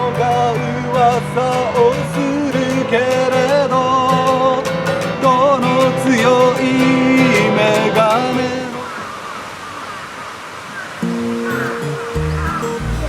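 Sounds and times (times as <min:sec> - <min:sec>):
country music with plucked guitar: 0:00.0 - 0:08.8, 0:11.0 - 0:13.0.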